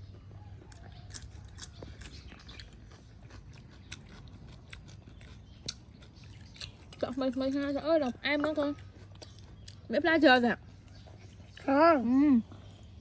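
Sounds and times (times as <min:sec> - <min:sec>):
chewing crispy fried chicken: 0:00.0 - 0:13.0.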